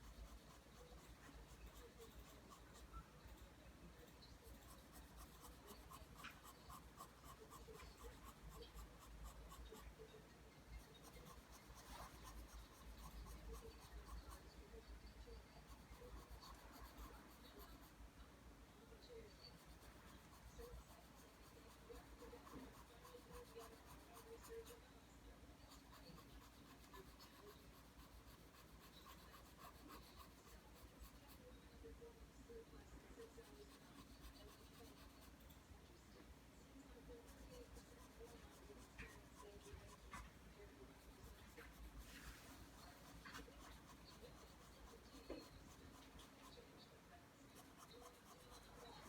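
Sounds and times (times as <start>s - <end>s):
pencil scratching on paper: 0.0s - 14.9s, 15.6s - 18.0s, 19.5s - 24.8s, 25.6s - 31.5s, 33.1s - 35.6s, 37.0s - 46.9s, 47.5s - 49.0s.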